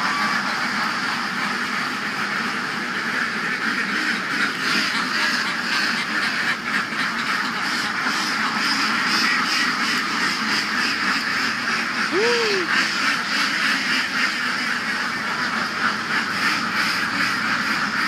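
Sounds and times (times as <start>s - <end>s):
flock of ducks quacking: 0.0s - 18.0s.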